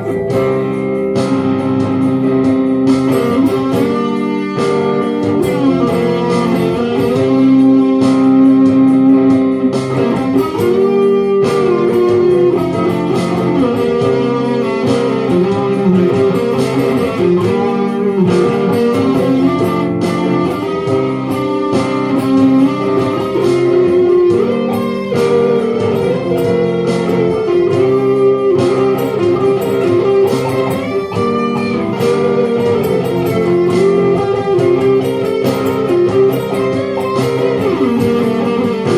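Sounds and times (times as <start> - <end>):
guitar picking over chords: 0.0 - 38.9.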